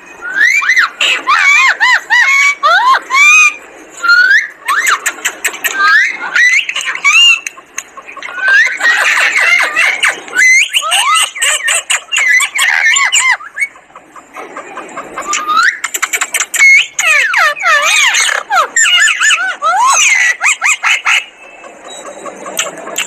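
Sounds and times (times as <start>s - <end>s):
parakeet chattering: 0.7s - 23.0s.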